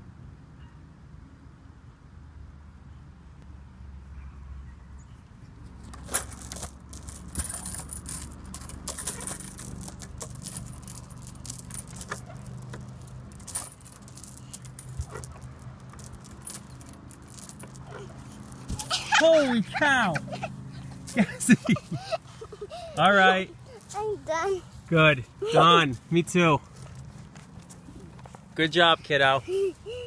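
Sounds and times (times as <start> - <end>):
metal swing chains clinking: 5.9 - 30.0.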